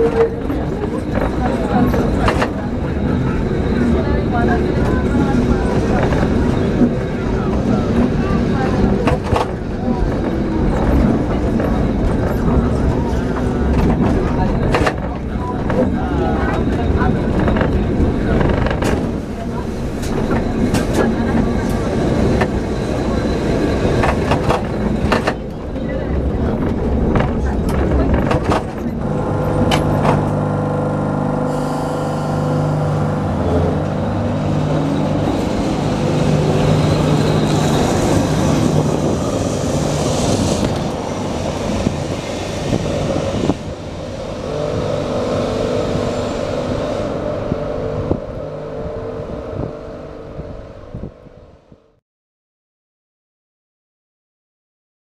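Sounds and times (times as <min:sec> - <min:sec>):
wheels on rails: 0:00.0 - 0:51.1
tram electric motor hum: 0:00.0 - 0:52.0.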